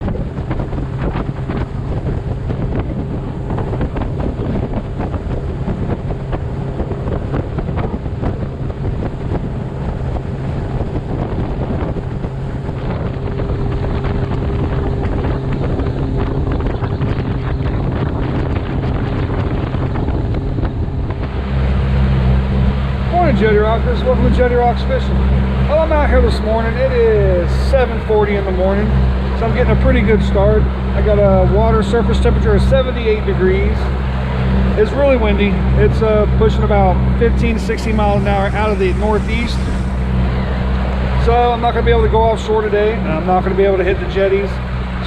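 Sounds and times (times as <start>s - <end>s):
boat motor running: 0.0s - 45.0s
wind buffeting microphone: 0.0s - 45.0s.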